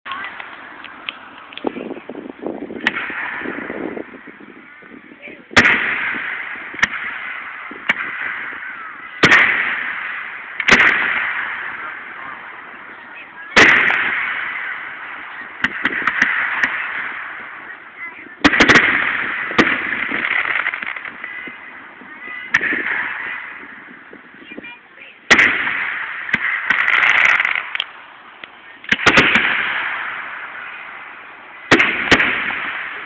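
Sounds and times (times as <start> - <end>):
fireworks booming with echo: 0.0 - 33.0
sharp fireworks pops: 0.1 - 4.6, 5.5 - 33.0.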